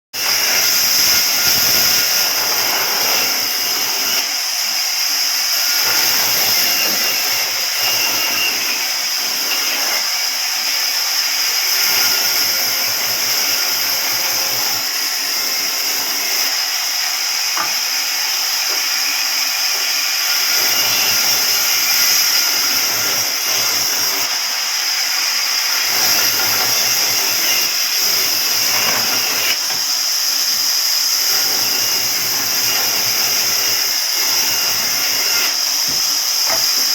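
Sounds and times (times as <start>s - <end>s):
power saw cutting wood: 0.1s - 36.9s.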